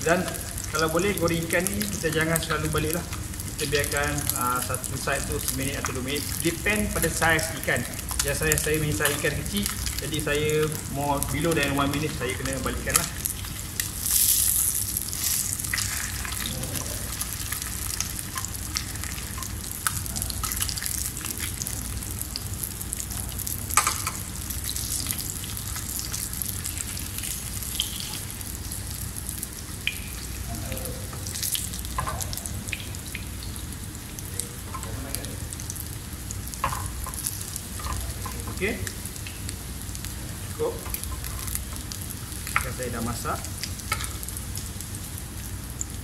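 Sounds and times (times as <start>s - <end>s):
fish sizzling in hot oil: 0.0s - 46.0s.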